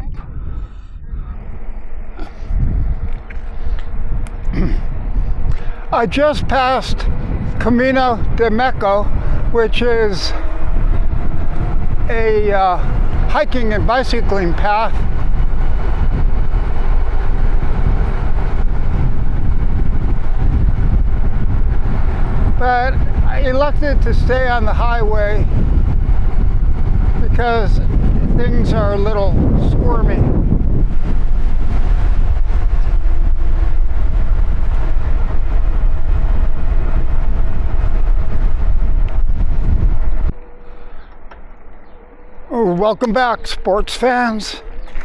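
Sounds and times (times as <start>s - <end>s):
wind and road noise: 0.0s - 45.0s.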